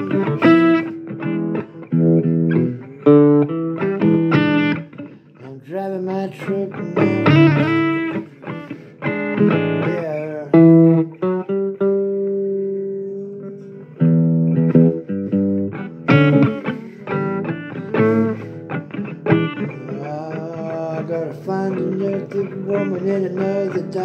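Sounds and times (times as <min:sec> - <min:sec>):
blues guitar: 0:00.0 - 0:24.0.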